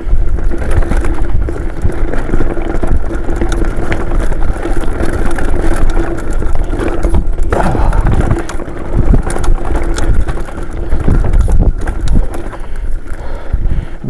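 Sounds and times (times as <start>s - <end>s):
mountain bike rattling: 0.0s - 14.0s
wind buffeting microphone: 0.0s - 14.0s.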